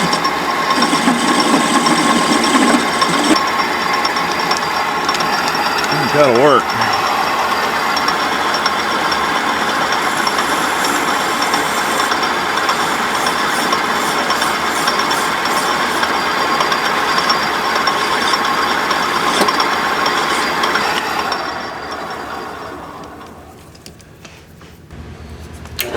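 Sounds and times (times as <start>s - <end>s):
metal lathe running: 0.0s - 24.0s.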